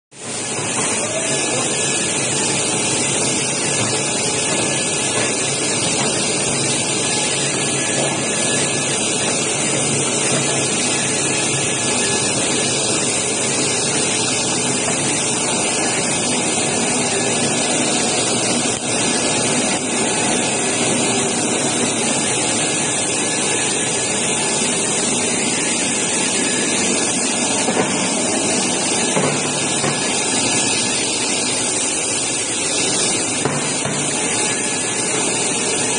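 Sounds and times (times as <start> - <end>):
water spray jets hissing: 0.2 - 35.9.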